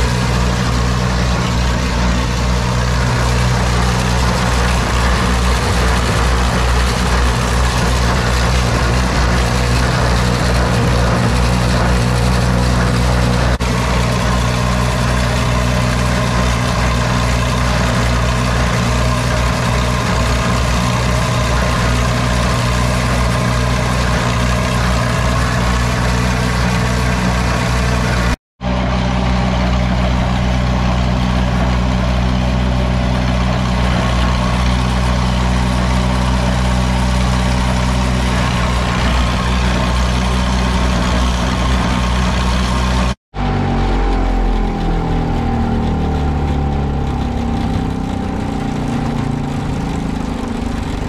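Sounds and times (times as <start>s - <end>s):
tractor engine and blower drone: 0.0s - 51.0s.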